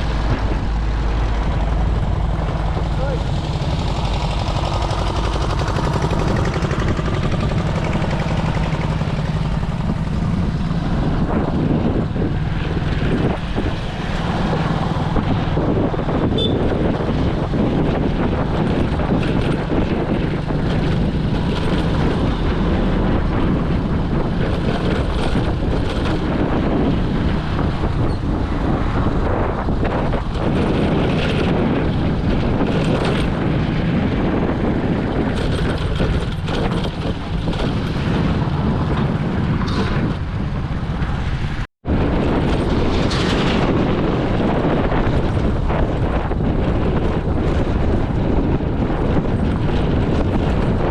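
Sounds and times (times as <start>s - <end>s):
moving vehicle noise: 0.0s - 50.9s
wind buffeting microphone: 0.0s - 50.9s.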